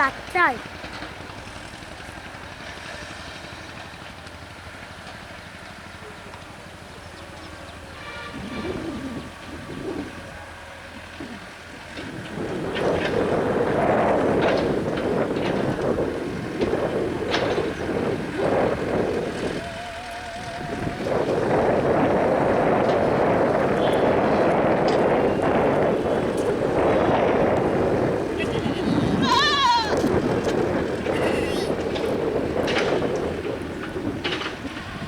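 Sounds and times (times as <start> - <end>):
excavator engine and hydraulics: 0.0 - 35.0.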